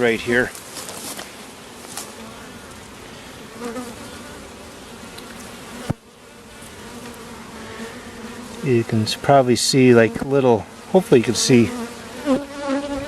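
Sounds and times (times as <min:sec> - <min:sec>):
bees buzzing: 0:00.0 - 0:13.0
bee droning close past: 0:01.3 - 0:13.0.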